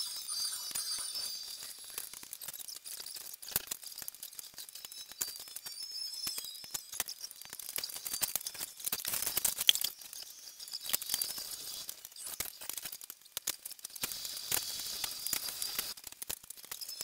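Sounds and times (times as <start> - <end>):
plastic pieces clicking: 1.7 - 17.0.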